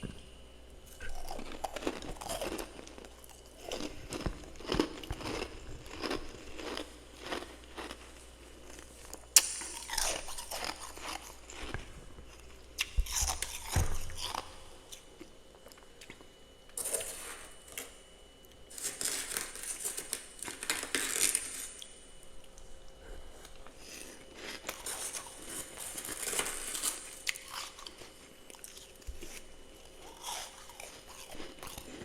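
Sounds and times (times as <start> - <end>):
frost crunching when chewed: 0.8 - 17.8, 18.6 - 32.0.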